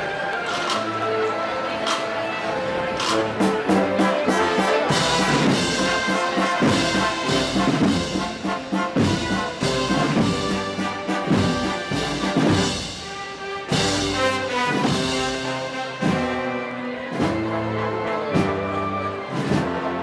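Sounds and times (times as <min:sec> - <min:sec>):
brass band playing slow march: 0:00.0 - 0:20.0.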